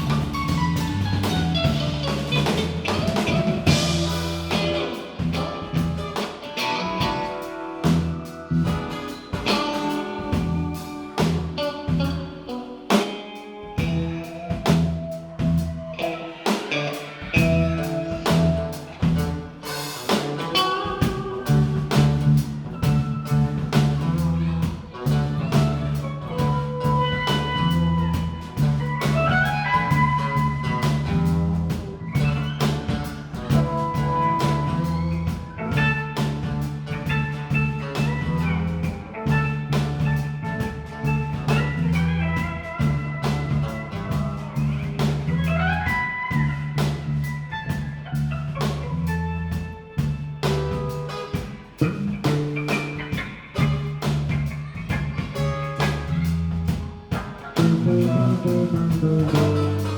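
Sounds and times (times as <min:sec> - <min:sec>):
drum kit beat: 0:00.0 - 0:59.9
guitar lines: 0:00.0 - 0:59.9
live band playing: 0:00.0 - 0:59.9.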